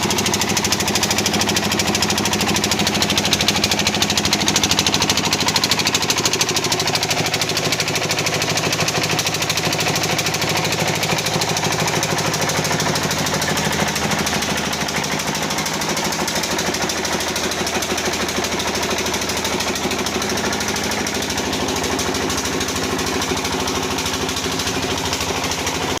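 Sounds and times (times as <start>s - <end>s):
motor hum: 0.0s - 6.2s, 7.0s - 26.0s
washing machine rattling: 0.0s - 26.0s.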